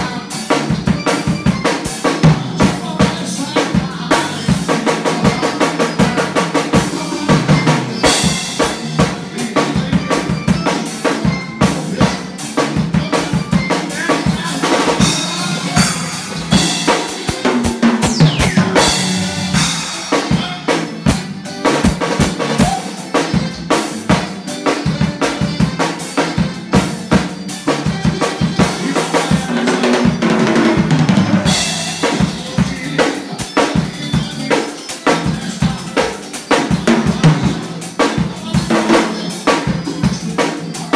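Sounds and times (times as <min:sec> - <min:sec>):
drum strokes: 0:00.0 - 0:40.8.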